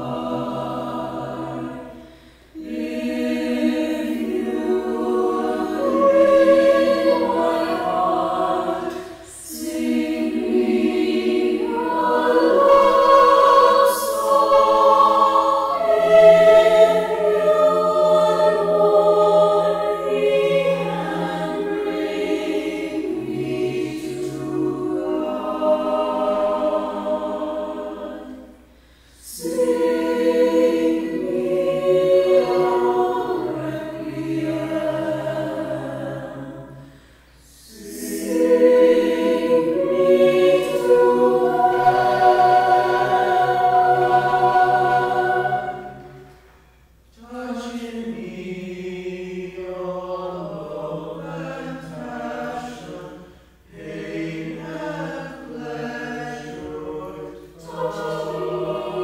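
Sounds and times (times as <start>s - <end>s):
choir singing unaccompanied: 0.0s - 59.0s.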